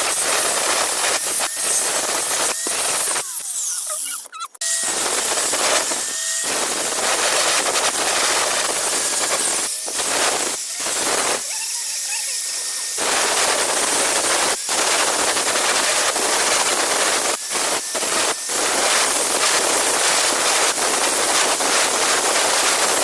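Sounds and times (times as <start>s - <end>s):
angle grinder grinding steel: 0.0s - 23.0s
grinder motor whine: 0.0s - 23.0s.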